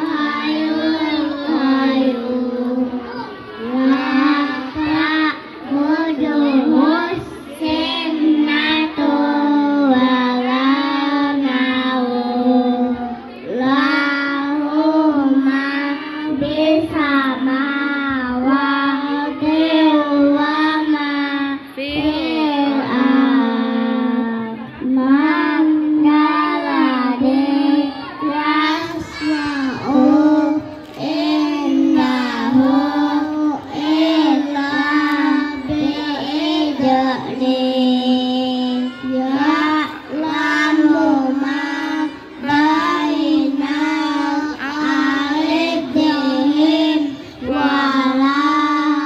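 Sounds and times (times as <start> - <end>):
young children singing: 0.0 - 49.0.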